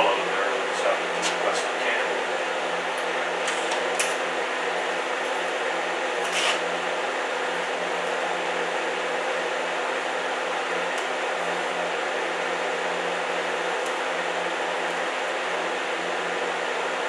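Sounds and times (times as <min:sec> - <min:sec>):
welder electrical hum: 0:00.0 - 0:17.0.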